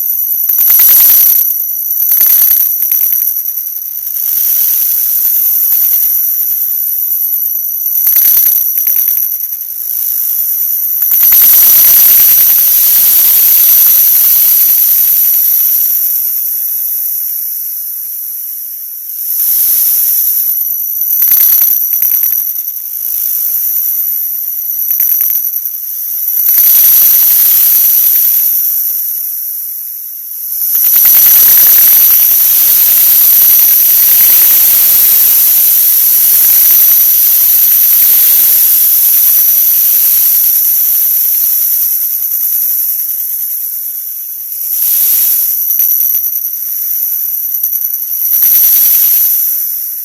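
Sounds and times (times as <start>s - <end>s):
high-pitched whistling tones: 0.0s - 18.0s, 19.0s - 50.0s
static-like hiss: 0.0s - 50.0s.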